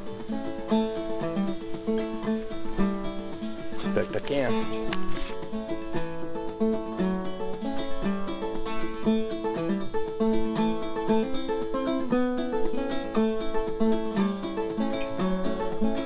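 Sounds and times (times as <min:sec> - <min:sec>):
plucked acoustic string music: 0:00.0 - 0:16.0.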